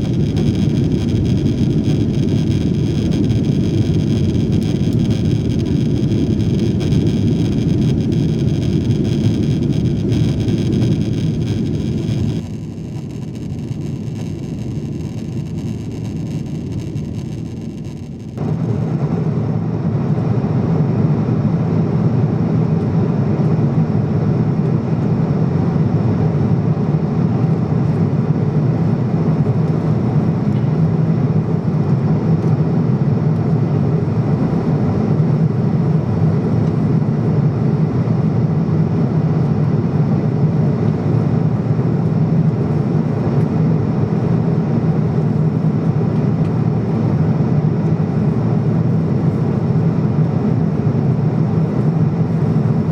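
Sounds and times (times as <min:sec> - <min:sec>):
jet engines in airplane cabin: 0:00.0 - 0:52.9.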